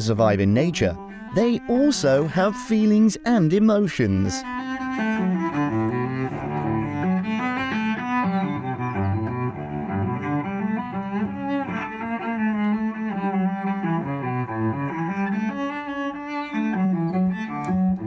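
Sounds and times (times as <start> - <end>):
cello bowed melody: 0.0 - 18.0.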